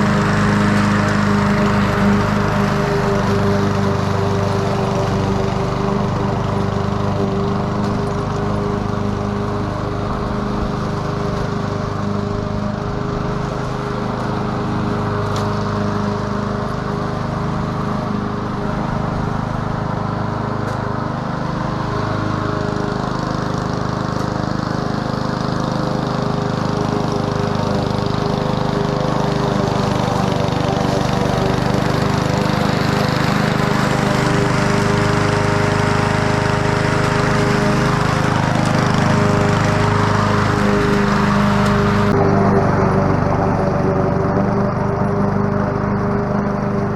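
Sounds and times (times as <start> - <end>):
lawn mower cutting grass: 0.0 - 46.9.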